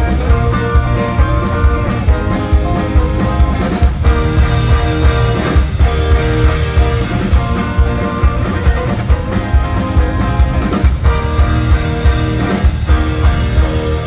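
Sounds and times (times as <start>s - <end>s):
steady drum beat: 0.0s - 14.0s
strummed guitars: 0.0s - 14.0s.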